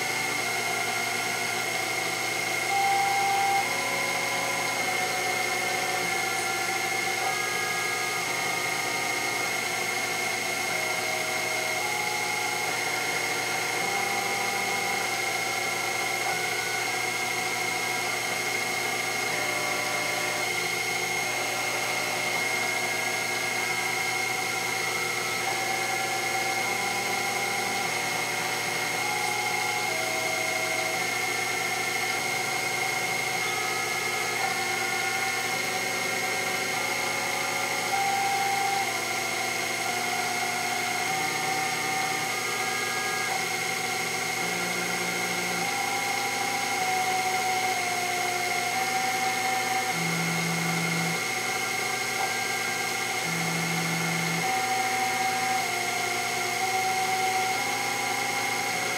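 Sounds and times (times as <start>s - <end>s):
mill machine high whine: 0.0s - 58.9s
stepper motors singing tones: 0.0s - 58.9s.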